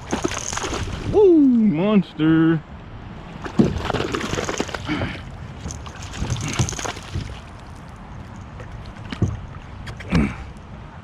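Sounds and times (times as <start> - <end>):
water splashes: 0.0 - 1.7, 3.2 - 10.4.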